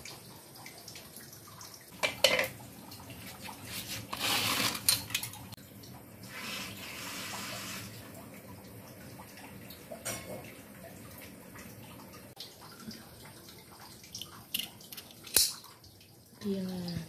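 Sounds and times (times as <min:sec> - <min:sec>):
tap water running: 0:00.0 - 0:17.0.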